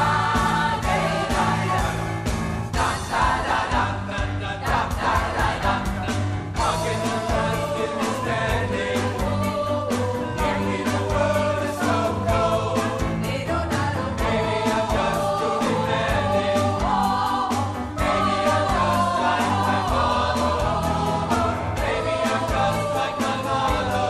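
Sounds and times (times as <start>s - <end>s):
bass guitar: 0.0s - 24.0s
choir singing in parts: 0.0s - 24.0s
drum kit beat: 0.0s - 24.0s.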